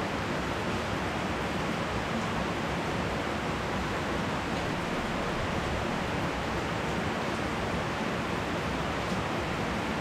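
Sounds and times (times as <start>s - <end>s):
rain pouring on leafy trees: 0.0s - 10.0s.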